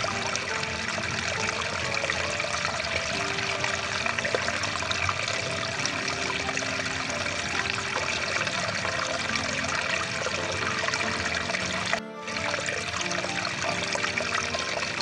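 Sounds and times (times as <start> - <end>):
soft music: 0.0 - 15.0
stream water rushing: 0.0 - 15.0.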